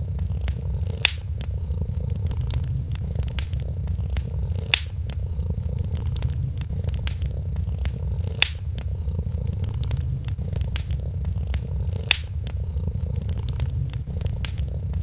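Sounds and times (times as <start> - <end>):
cat purring: 0.0 - 15.0
fire pops: 0.0 - 15.0
wood fire crackling: 0.0 - 15.0.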